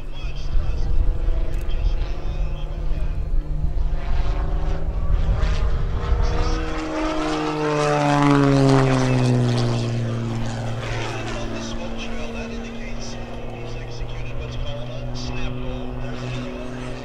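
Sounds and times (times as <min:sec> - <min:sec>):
propeller plane passing: 0:00.0 - 0:17.0.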